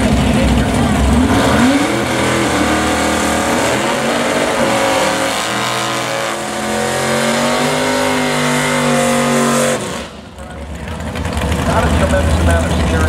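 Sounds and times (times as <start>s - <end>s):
drag car engine revving high: 0.0s - 13.0s.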